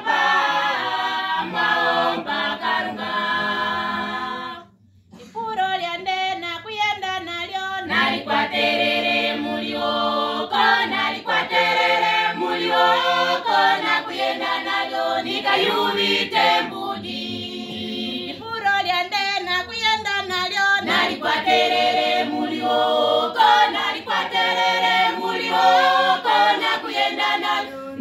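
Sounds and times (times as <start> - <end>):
choir singing unaccompanied: 0.0 - 4.7, 7.8 - 18.6, 20.4 - 28.0.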